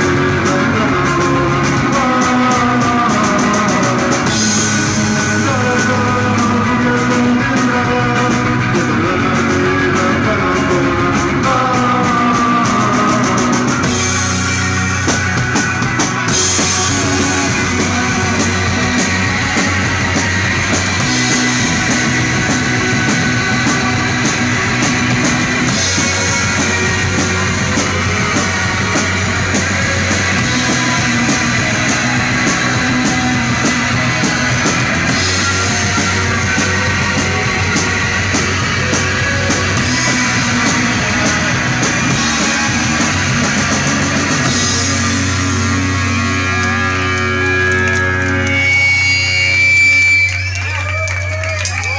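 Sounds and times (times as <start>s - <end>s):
drum kit with cymbals: 0.0s - 50.4s
electric guitar: 0.0s - 51.9s.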